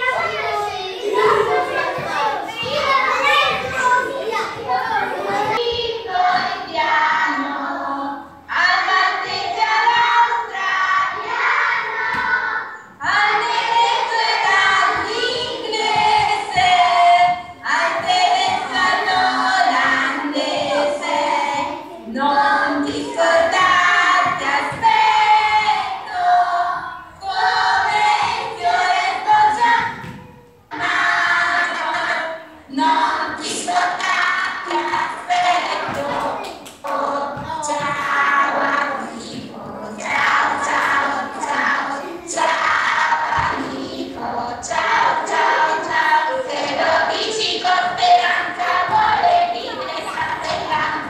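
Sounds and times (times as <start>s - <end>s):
children singing: 0.0s - 51.0s.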